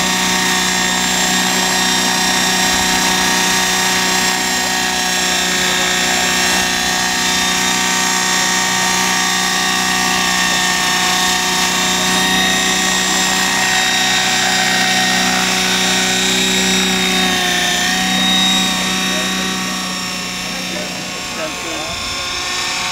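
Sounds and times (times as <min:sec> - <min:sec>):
model helicopter mechanical whine: 0:00.0 - 0:22.9.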